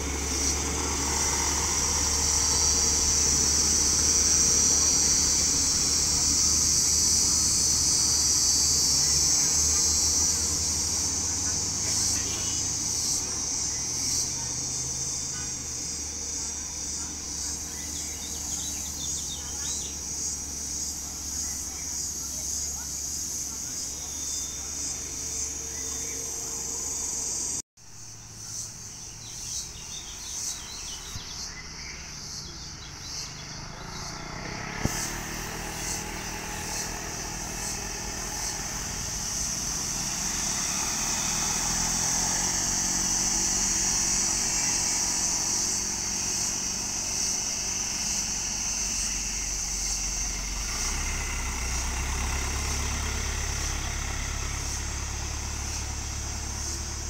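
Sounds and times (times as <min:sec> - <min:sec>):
motorcycle engines passing: 0:00.0 - 0:27.6, 0:28.2 - 0:57.0
diesel truck engine: 0:00.0 - 0:57.0
insects buzzing: 0:00.0 - 0:57.0.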